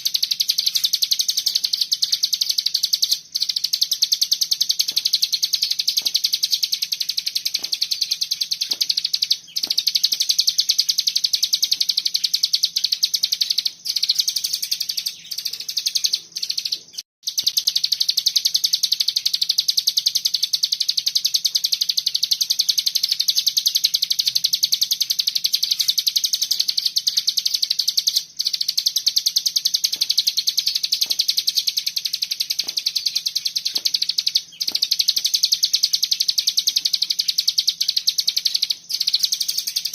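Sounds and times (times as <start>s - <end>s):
songbird rapid high trill: 0.0s - 39.9s.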